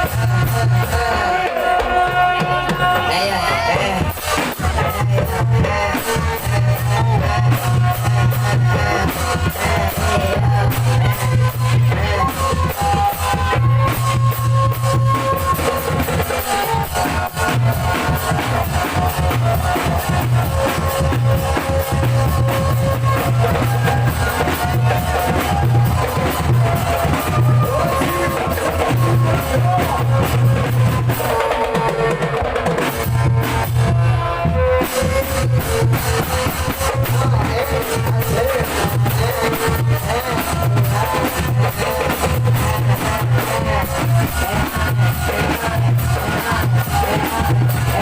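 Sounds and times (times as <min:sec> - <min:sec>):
music with heavy drum beat: 0:00.0 - 0:48.0.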